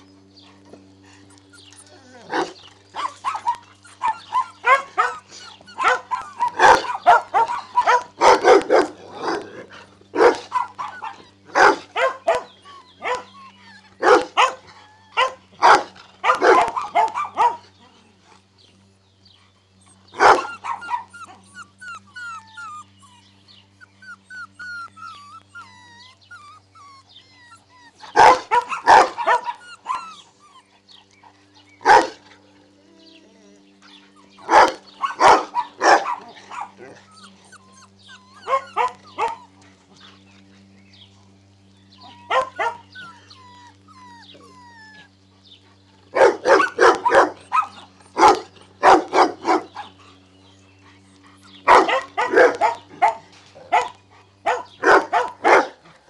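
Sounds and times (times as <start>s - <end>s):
puppies barking and yelping: 0.0s - 56.0s
puppies whining: 0.0s - 56.0s
steady low hum: 0.0s - 56.0s.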